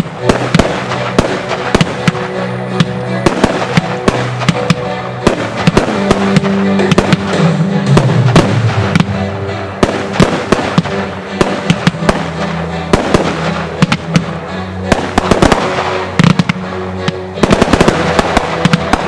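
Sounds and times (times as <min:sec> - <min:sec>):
fireworks bangs and crackles: 0:00.0 - 0:19.0
music with low notes: 0:00.0 - 0:19.0.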